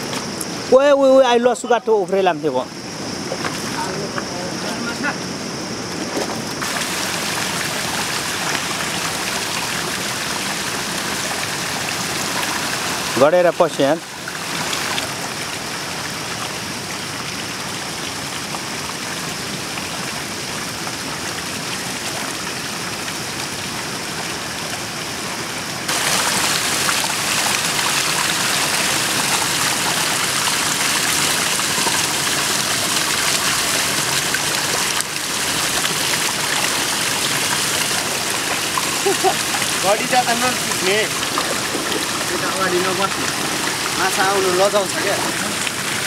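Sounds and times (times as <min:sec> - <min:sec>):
floodwater rushing over rocks: 0:06.0 - 0:46.0.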